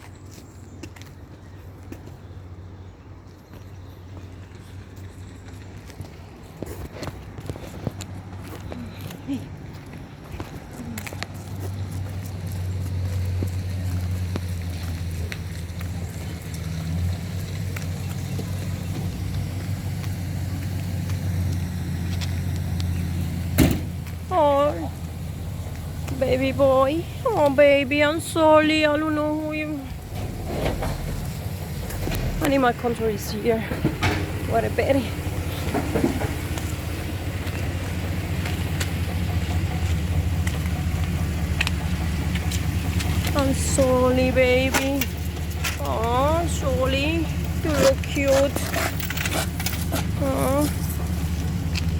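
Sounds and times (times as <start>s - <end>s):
car engine rumble: 0.0s - 51.9s.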